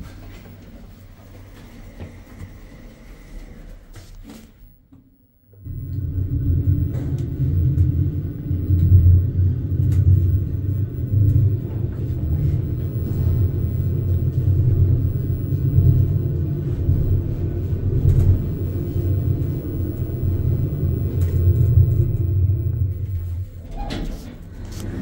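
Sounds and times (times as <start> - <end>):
elevator low rumble: 0.0 - 25.0.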